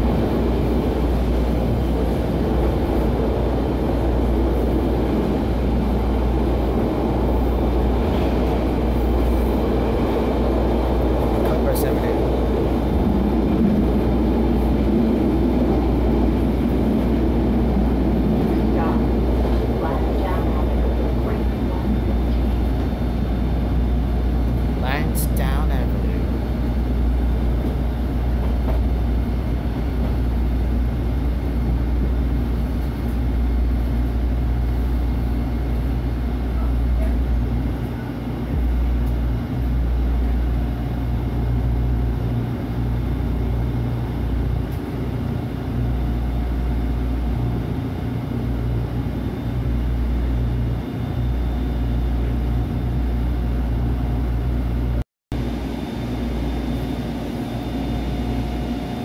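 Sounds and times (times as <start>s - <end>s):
trolley car rumble and hum: 0.0s - 59.0s.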